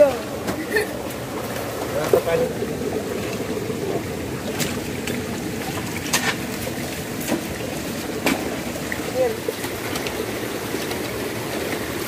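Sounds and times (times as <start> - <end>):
stream water running over rocks: 0.0 - 12.0.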